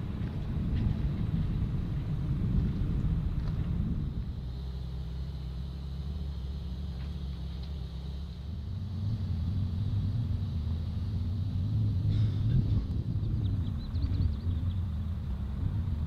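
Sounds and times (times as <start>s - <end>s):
locomotive hum and rumble: 0.0s - 16.0s.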